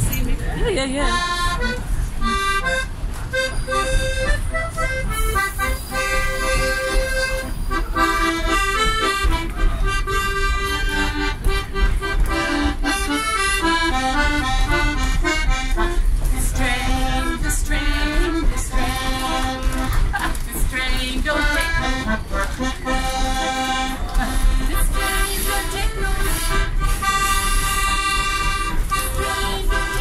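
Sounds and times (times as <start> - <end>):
piano accordion playing a tune: 0.0 - 30.0.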